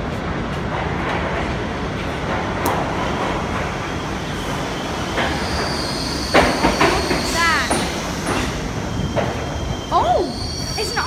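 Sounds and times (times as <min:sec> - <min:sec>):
subway train wheels rumbling: 0:00.0 - 0:11.0.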